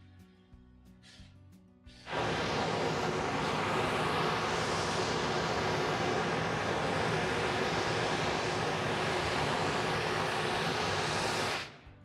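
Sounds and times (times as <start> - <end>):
train wheel and rail noise: 2.1 - 11.8.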